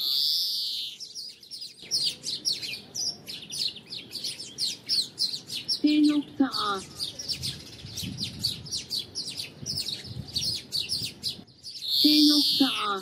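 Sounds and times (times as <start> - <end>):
greenfinch singing: 0.0 - 13.0.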